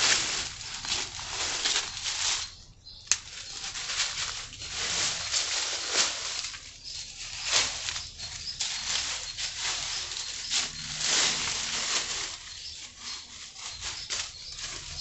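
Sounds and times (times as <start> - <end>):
leaves rustling in wind: 0.0 - 15.0.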